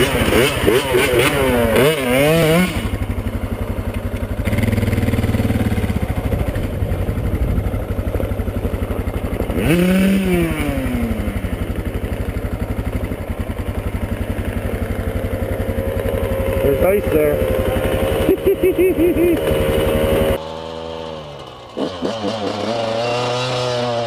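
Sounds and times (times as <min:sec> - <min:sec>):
dirt bike engine puttering: 0:00.0 - 0:24.0.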